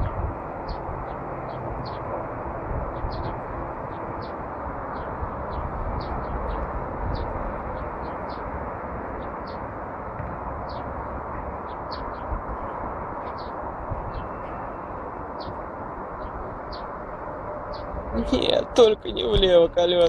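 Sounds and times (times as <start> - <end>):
small birds chirping: 0.0 - 2.2, 2.8 - 20.0
steady rushing noise: 0.0 - 20.0.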